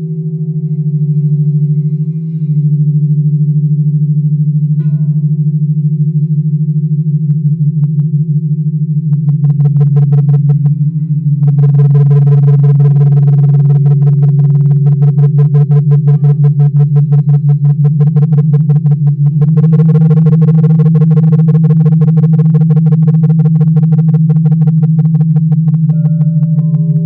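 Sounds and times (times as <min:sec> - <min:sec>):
crystal singing bowls humming: 0:00.0 - 0:27.0.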